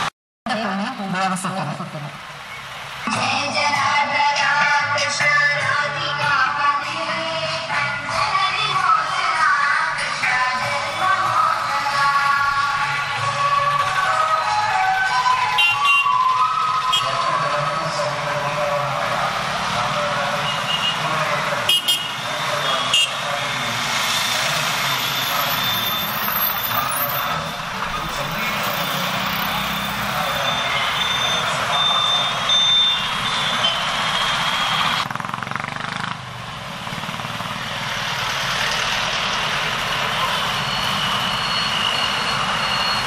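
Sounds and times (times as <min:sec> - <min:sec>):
road traffic: 0:00.0 - 0:43.0
bus driving close by: 0:02.1 - 0:43.0.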